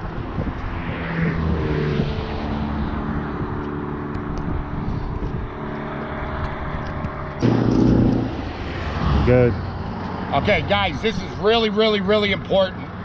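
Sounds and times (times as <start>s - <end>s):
engine droning: 0.8s - 12.9s.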